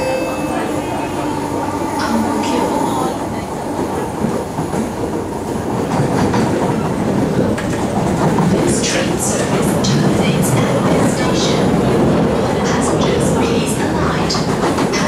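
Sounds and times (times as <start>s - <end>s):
train cabin rumble: 0.0s - 15.0s.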